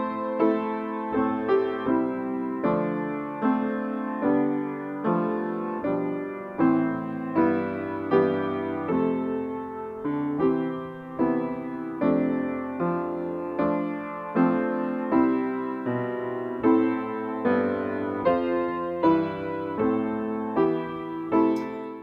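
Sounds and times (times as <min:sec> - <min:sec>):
piano playing slow chords: 0:00.0 - 0:22.0.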